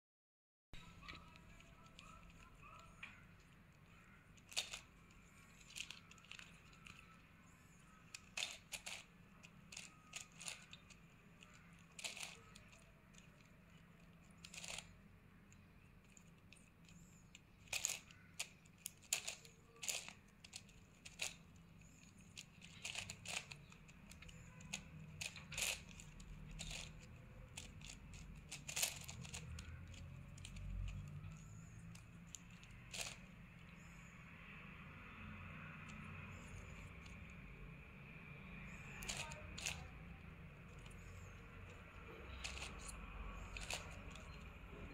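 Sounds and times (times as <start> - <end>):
puzzle cube clicking: 0.9 - 33.3, 38.7 - 44.9.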